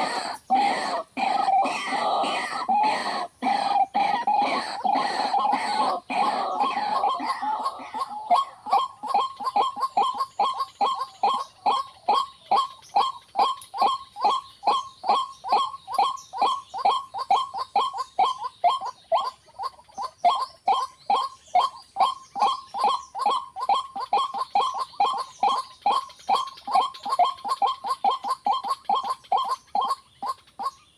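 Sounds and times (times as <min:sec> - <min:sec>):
waterhen calling: 0:00.0 - 0:30.9.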